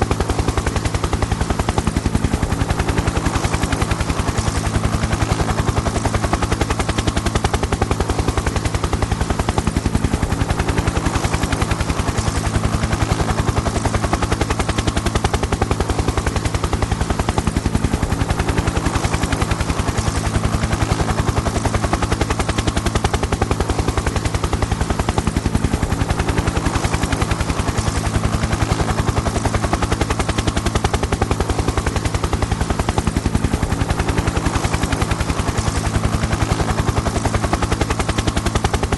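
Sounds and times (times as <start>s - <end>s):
helicopter engine drone: 0.0s - 38.9s
helicopter rotor chopping: 0.0s - 38.9s.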